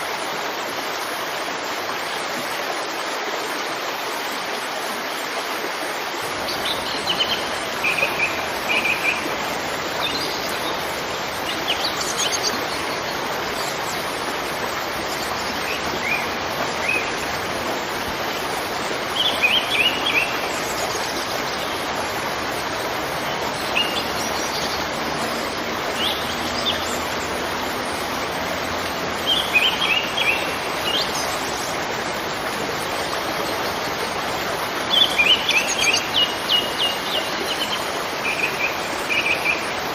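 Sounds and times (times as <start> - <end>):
waterfall rushing: 0.0 - 39.9
birds chirping: 6.4 - 32.1, 32.8 - 39.9.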